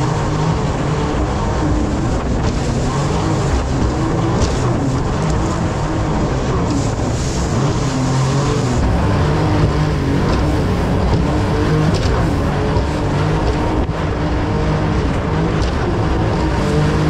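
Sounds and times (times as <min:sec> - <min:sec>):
boat engine drone: 0:00.0 - 0:17.0
rough water splashing on hull: 0:00.0 - 0:17.0.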